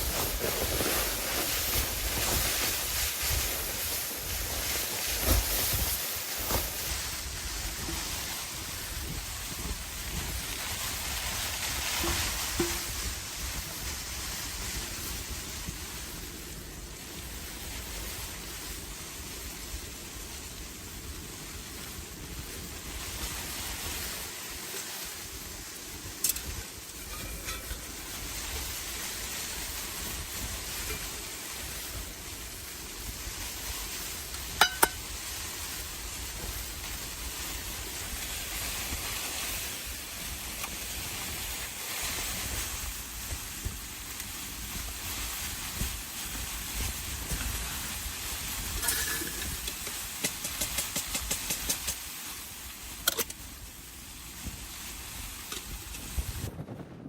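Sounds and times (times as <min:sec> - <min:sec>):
steady hiss: 0:00.0 - 0:56.5.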